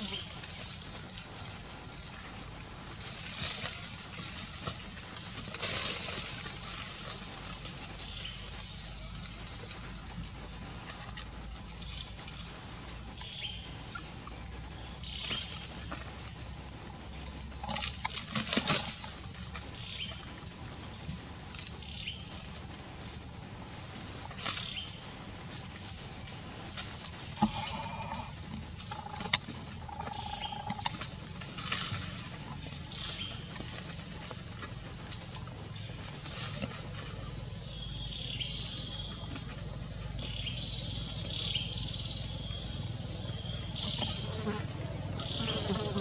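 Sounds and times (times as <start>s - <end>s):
steady high-pitched whine: 0.0s - 46.0s.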